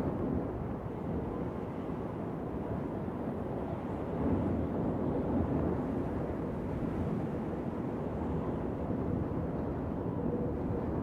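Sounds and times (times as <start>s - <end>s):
low rumble of wind: 0.0s - 11.0s.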